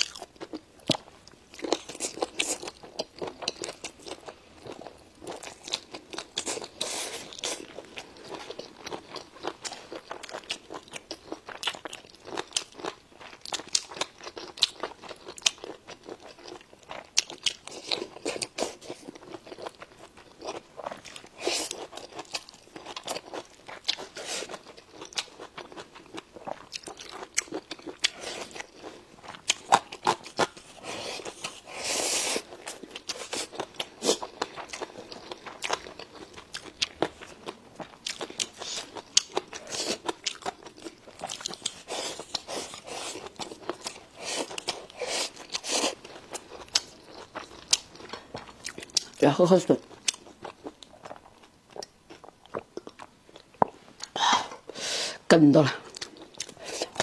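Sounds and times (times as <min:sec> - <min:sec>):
chewing and crunching crisp food: 0:00.0 - 0:54.9, 0:55.5 - 0:57.0.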